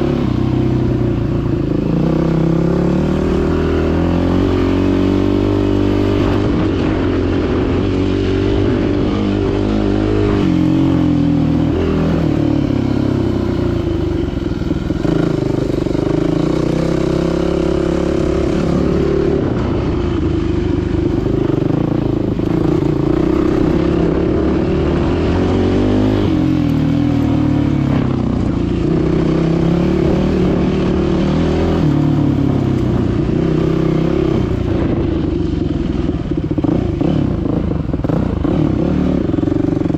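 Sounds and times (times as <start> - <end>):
dirt bike engine revving: 0.0 - 35.0, 35.9 - 39.9.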